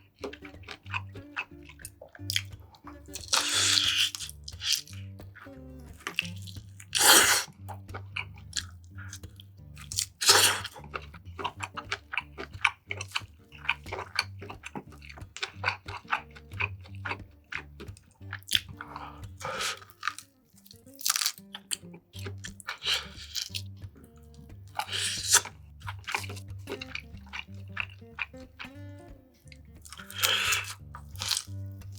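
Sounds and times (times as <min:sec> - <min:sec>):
background music with low bass: 0:00.0 - 0:31.9
crunchy bites: 0:00.0 - 0:31.9
wet crunchy chewing: 0:00.0 - 0:31.9.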